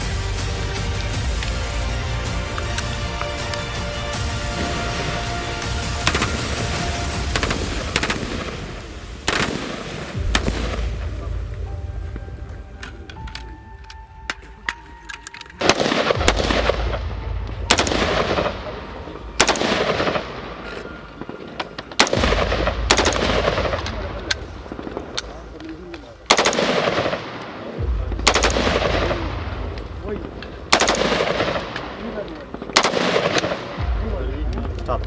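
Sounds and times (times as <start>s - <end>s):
background music with steady tones: 0.0s - 35.0s
sharp crack: 2.4s - 11.6s, 14.3s - 18.8s, 19.4s - 35.0s
rumbling echo of gunfire: 2.4s - 12.6s, 15.6s - 35.0s.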